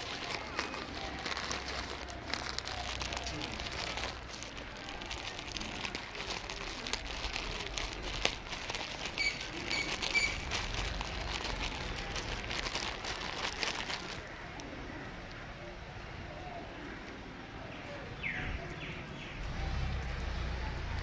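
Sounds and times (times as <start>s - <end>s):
dry crinkling and crackling: 0.0s - 15.5s, 18.6s - 21.0s.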